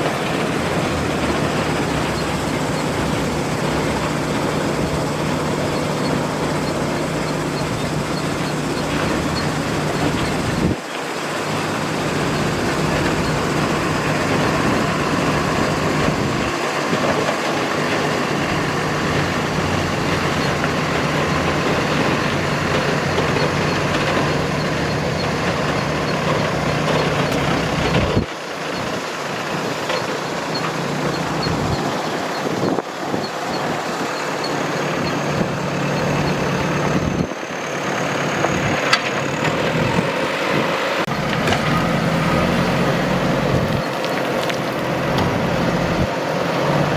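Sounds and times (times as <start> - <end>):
diesel machinery engine hum: 0.0 - 46.9.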